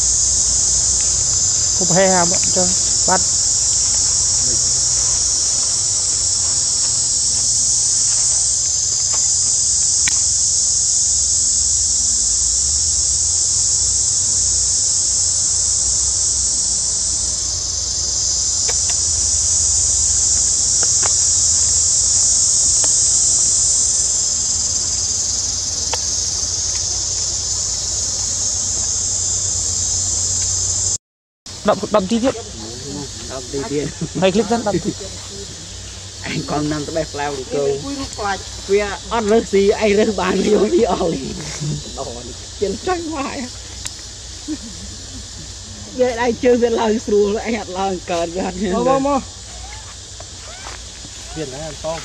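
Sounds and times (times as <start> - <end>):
cicadas buzzing: 0.0 - 52.0.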